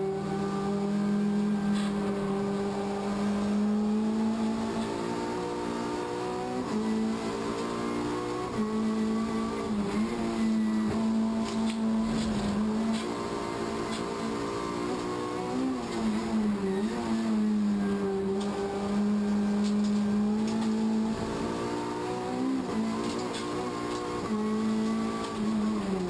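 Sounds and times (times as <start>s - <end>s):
race car engine at high revs: 0.0s - 26.0s.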